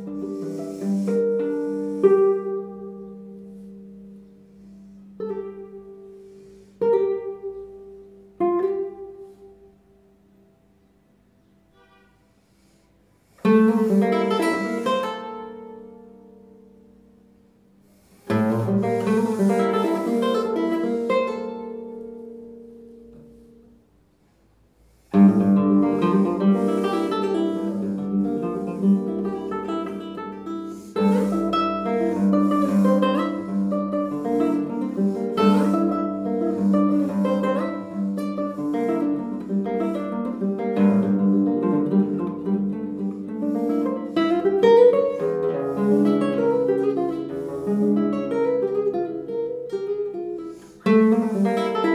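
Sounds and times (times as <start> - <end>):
fingerpicked guitar notes: 0.0 - 12.0, 13.2 - 23.9, 24.9 - 51.9
classical guitar chords ringing: 0.0 - 51.9.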